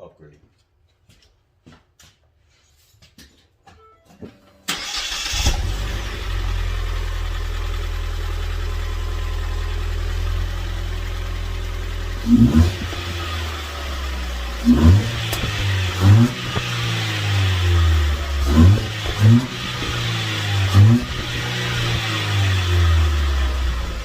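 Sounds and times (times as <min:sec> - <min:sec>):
car engine starting and idling: 0:04.5 - 0:24.0
engine revving: 0:04.7 - 0:24.0.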